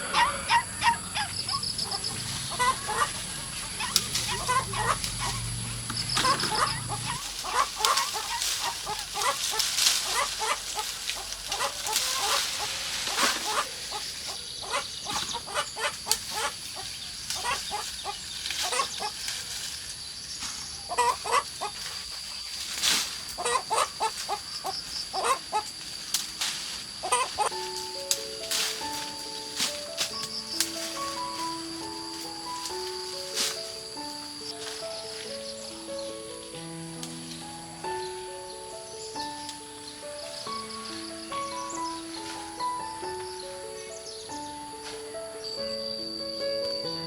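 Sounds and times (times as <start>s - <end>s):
chickens clucking: 0.0s - 47.0s.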